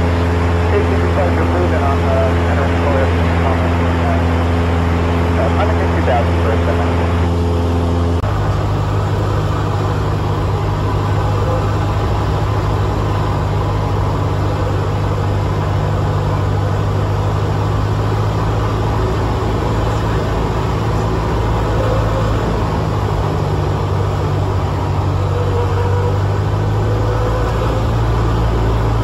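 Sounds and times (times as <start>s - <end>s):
air noise: 0.0s - 29.0s
light aircraft engine drone: 0.0s - 29.0s.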